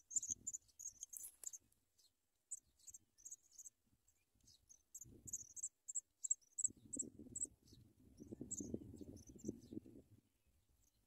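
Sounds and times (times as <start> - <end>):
nestling birds peeping: 0.0 - 9.8.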